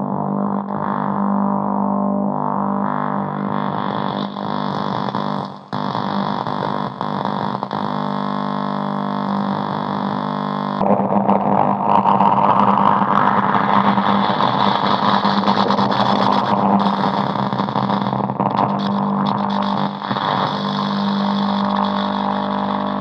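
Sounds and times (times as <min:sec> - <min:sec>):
electronic low buzzing drone: 0:00.0 - 0:23.0.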